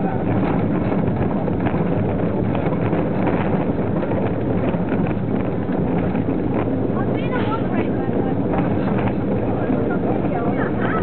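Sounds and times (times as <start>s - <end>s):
rumble of wheels on rails: 0.0s - 11.0s
wind buffeting microphone: 0.0s - 11.0s.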